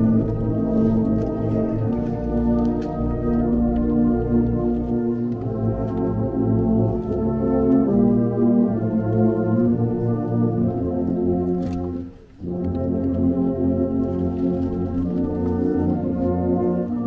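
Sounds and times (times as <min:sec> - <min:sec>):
brass band playing chords: 0:00.0 - 0:17.0.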